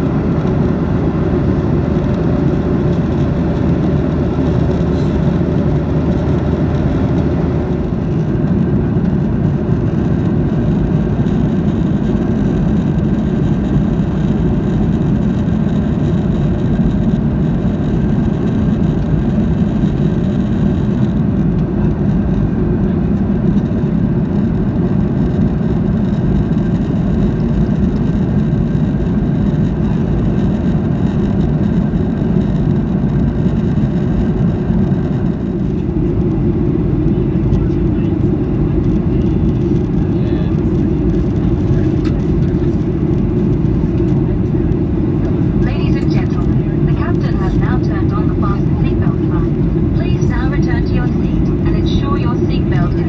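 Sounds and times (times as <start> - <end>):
airplane cabin engine rush: 0.0 - 53.0
low hum: 0.0 - 53.0.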